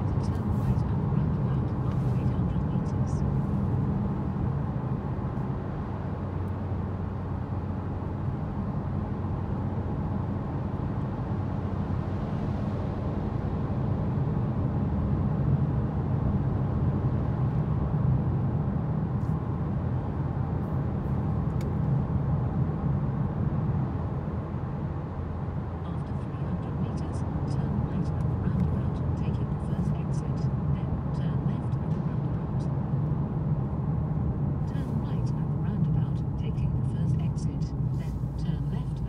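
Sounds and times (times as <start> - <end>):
car driving through tunnel: 0.0 - 39.0.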